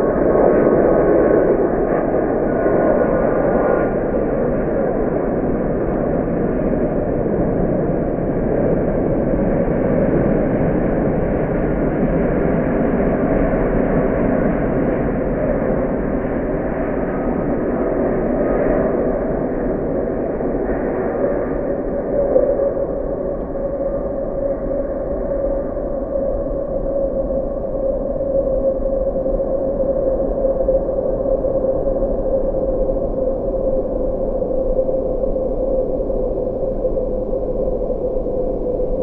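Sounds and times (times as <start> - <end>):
jet engines rushing: 0.0 - 35.2.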